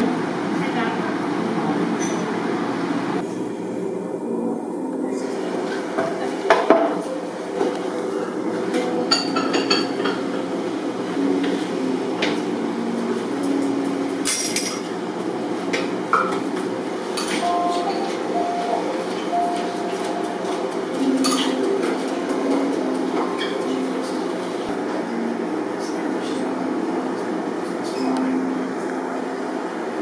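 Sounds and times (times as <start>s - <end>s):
restaurant room noise: 0.0s - 30.0s.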